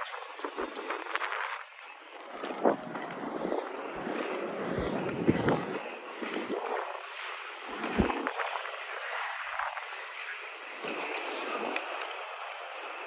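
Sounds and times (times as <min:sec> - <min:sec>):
skate wheels rolling on pavement: 0:00.0 - 0:13.0
wind buffeting microphone: 0:00.0 - 0:13.0.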